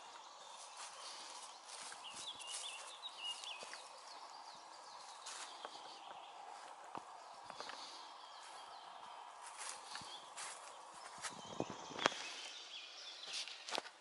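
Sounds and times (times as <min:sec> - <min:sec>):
footsteps on dirt path: 0:00.0 - 0:12.6
birds singing faintly: 0:00.0 - 0:14.0.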